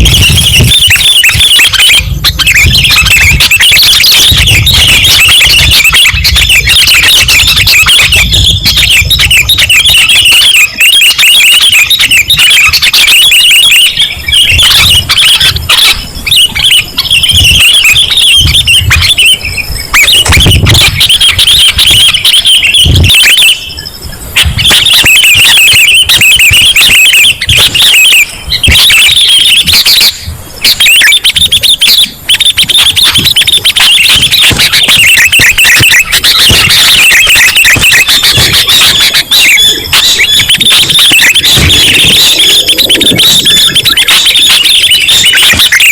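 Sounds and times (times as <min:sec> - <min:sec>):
birds chattering and chirping: 0:00.0 - 0:45.9.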